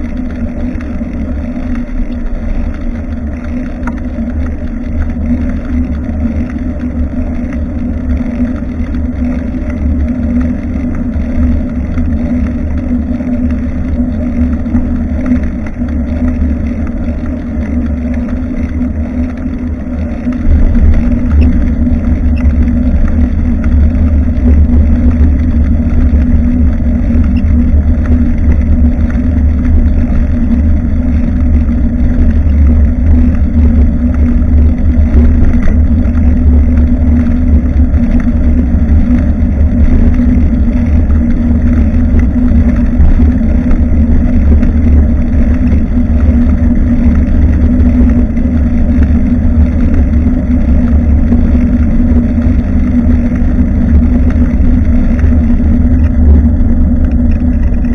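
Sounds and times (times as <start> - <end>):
wind rumbling on microphone: 0.0 - 57.9.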